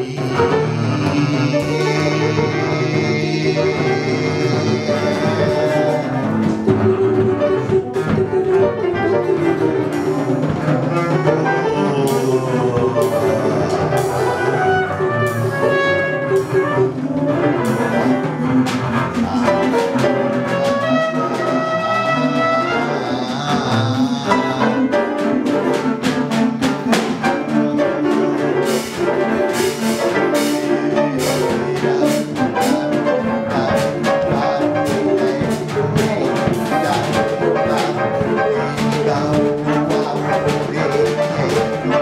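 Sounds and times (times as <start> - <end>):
piano: 0.0 - 42.0
trumpet: 0.0 - 42.0.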